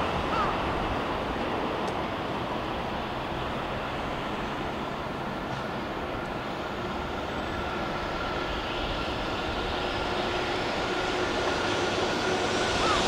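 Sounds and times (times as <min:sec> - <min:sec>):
freight train rail rumble: 0:00.0 - 0:13.0.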